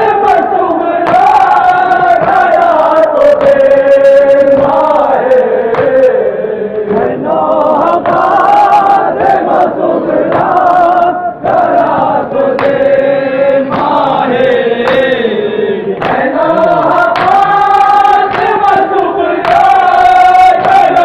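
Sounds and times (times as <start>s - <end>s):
men chanting a lament: 0.0s - 21.0s.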